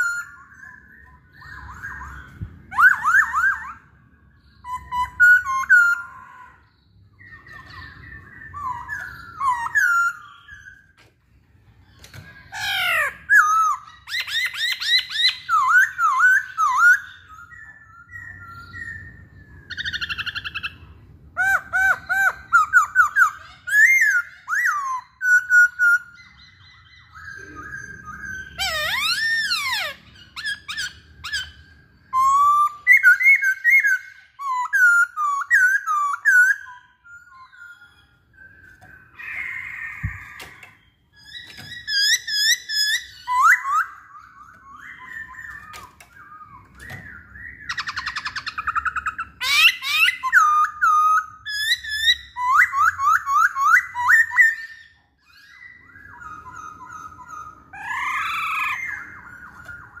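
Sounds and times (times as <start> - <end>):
bird singing whistled song: 0.0 - 60.0.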